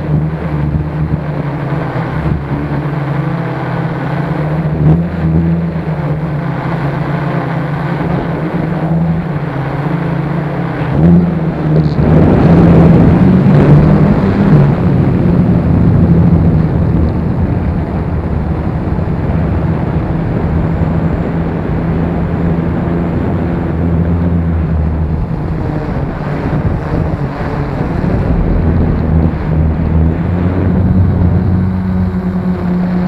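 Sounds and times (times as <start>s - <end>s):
drone propellers droning: 0.0s - 33.0s
wind buffeting microphone: 0.0s - 33.0s.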